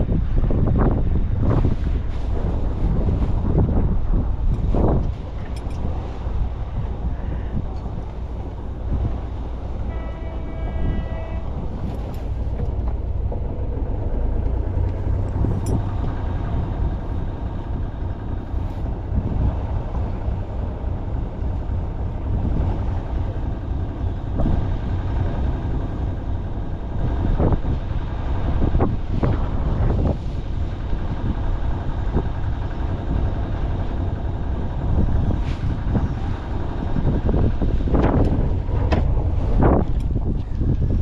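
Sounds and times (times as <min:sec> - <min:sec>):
boat engine rumbling: 0:00.0 - 0:41.0
water noise: 0:00.0 - 0:41.0
wind: 0:00.0 - 0:41.0.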